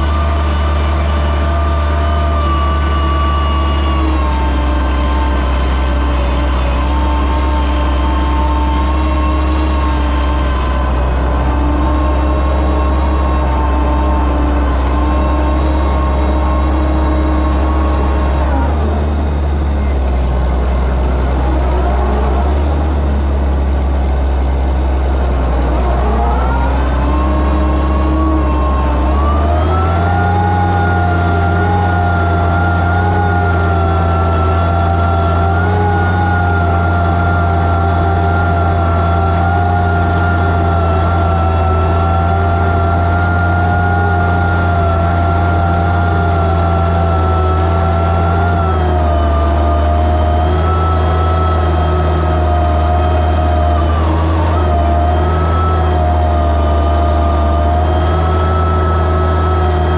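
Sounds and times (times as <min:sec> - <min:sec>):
high whine: 0:00.0 - 0:59.9
tractor engine under load: 0:00.0 - 0:59.9.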